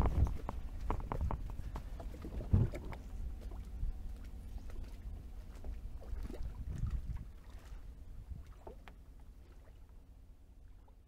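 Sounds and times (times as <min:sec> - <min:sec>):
wind rumble on microphone: 0:00.0 - 0:09.8
water lapping against kayak: 0:00.0 - 0:11.0.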